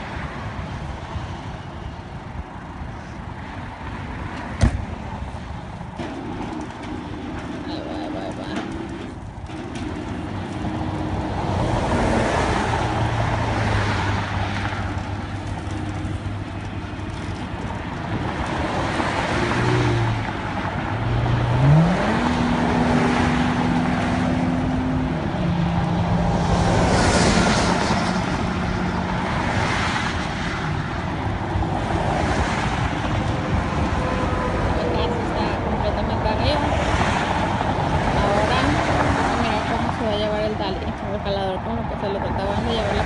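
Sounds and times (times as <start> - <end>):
freeway traffic swishing past: 0.0 - 43.0
vehicle engine revving: 6.0 - 43.0.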